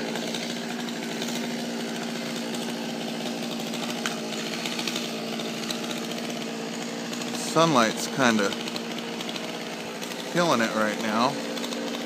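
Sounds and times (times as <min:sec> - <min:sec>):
small engine buzzing steadily: 0:00.0 - 0:12.0.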